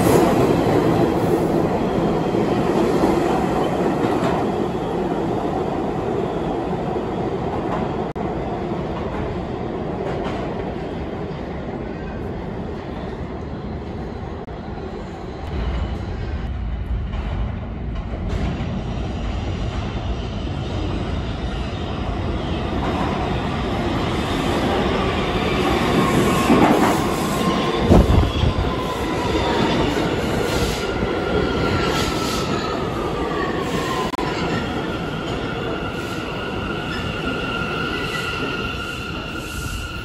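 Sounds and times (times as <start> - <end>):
subway train rumble: 0.0 - 40.0.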